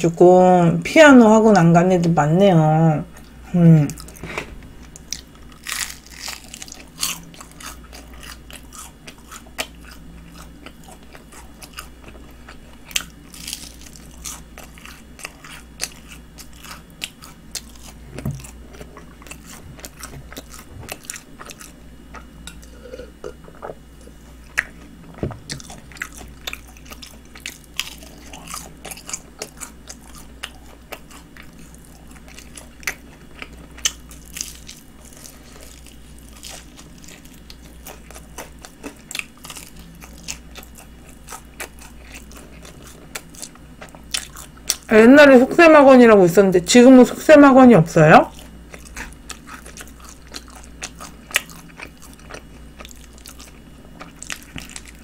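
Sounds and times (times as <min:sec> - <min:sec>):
crunchy fried chicken chewing: 0:03.1 - 0:44.9, 0:48.3 - 0:55.0.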